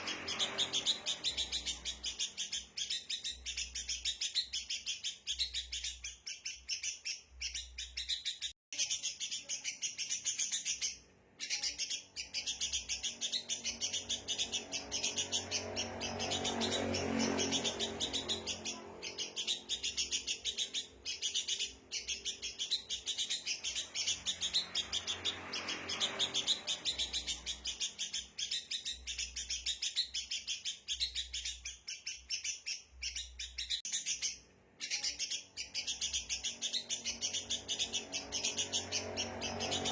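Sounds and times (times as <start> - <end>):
birds chattering: 0.0 - 39.9.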